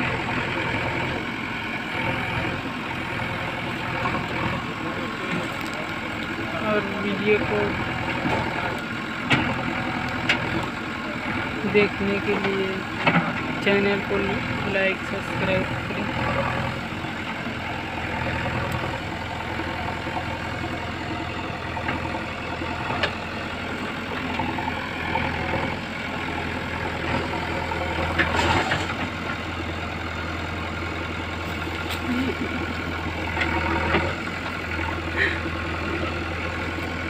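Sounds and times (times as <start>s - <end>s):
diesel engine running at low revs: 0.0s - 37.0s.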